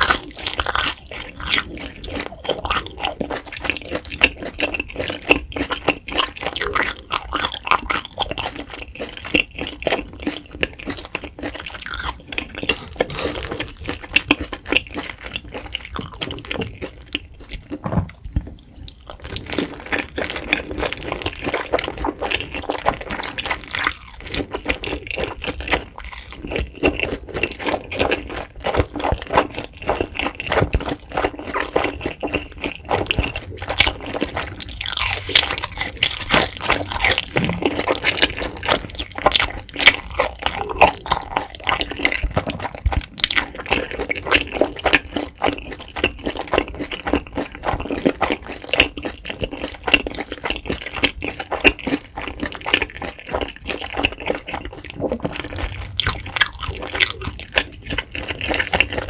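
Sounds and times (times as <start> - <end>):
wet chewing and lip smacking: 0.0 - 59.0.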